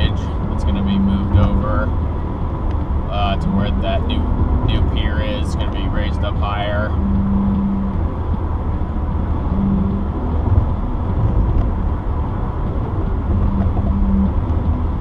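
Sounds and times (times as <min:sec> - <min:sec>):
car road noise: 0:00.0 - 0:15.0
low hum: 0:00.0 - 0:15.0.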